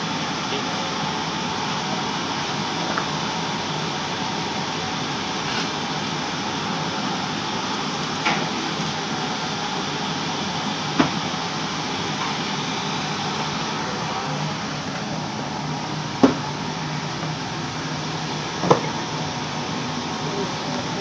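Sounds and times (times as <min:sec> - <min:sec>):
fan-like rushing noise: 0:00.0 - 0:21.0.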